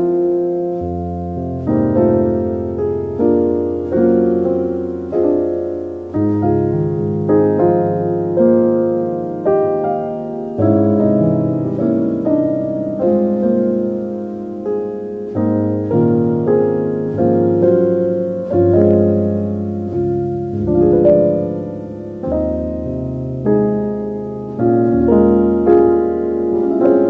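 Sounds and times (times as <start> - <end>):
slow solo piano music: 0.0 - 27.0.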